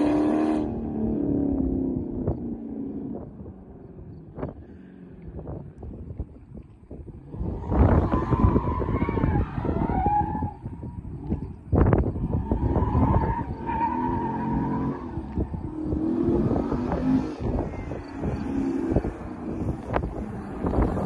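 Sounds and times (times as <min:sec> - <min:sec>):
distant car engine revving: 0:00.0 - 0:03.3, 0:07.4 - 0:21.0
wind buffeting microphone: 0:00.0 - 0:21.0.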